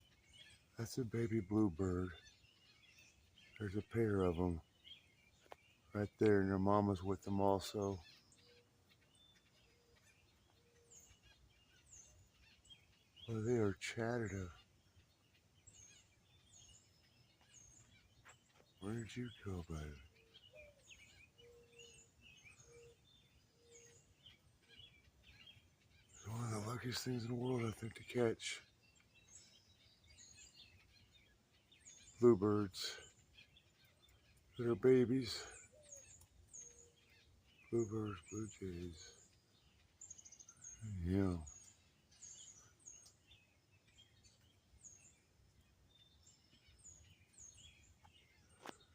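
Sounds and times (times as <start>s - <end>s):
faint bird chirps: 0.0s - 48.9s.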